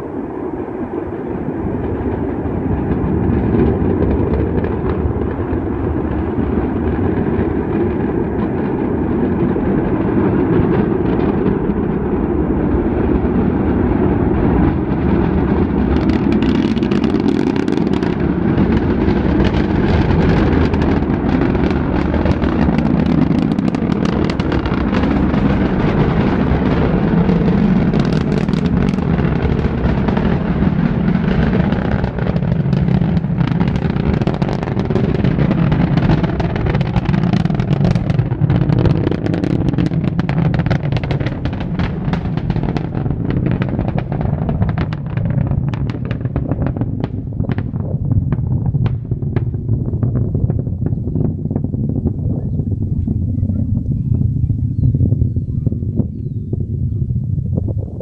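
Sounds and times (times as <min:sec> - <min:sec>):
distant rocket engine rumble: 0:00.0 - 0:58.0
rocket engine crackling: 0:00.0 - 0:58.0.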